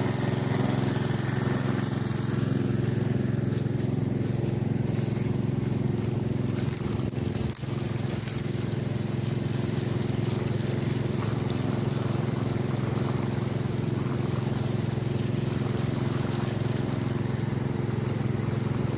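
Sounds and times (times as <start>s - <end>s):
water pump engine running: 0.0s - 18.9s.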